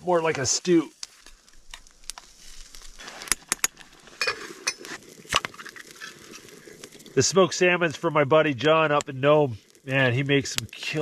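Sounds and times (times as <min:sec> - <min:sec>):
faint crackle: 0:00.0 - 0:11.0.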